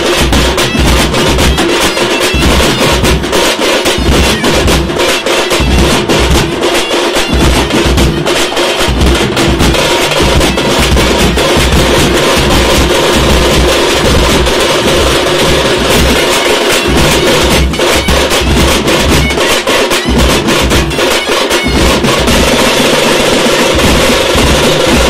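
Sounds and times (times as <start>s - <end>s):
frame drums beaten with sticks: 0.0s - 25.0s
heavy bass drum beats: 0.0s - 25.0s.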